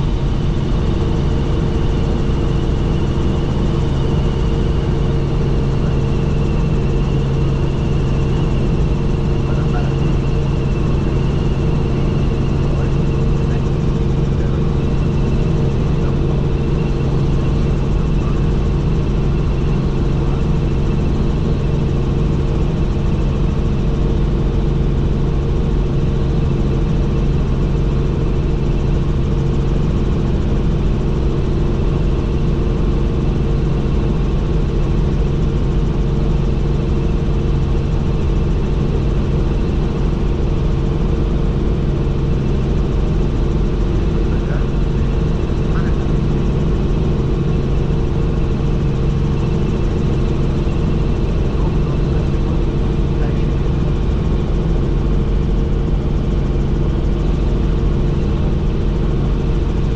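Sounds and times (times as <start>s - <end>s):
helicopter engine and rotors droning: 0.0s - 59.9s.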